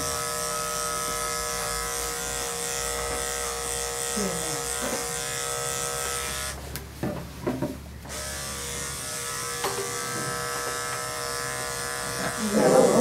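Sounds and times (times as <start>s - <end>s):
electric clippers humming: 0.0s - 6.6s, 8.0s - 13.0s.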